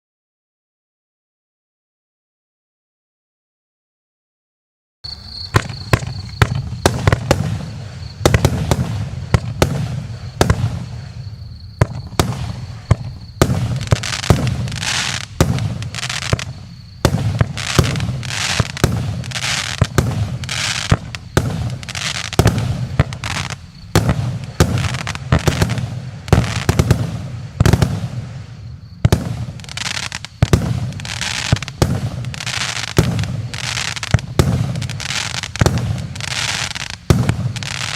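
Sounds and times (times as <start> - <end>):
fireworks crackling: 5.1 - 37.9
fireworks launch thumps and bursts: 5.4 - 37.9.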